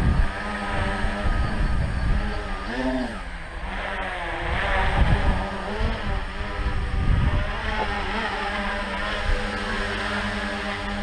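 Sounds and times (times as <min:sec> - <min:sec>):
drone propellers buzzing: 0:00.0 - 0:11.0.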